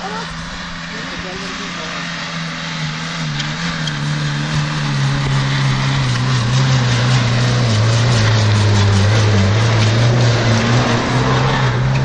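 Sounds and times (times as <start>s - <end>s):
car engine labouring uphill: 0.0s - 12.0s.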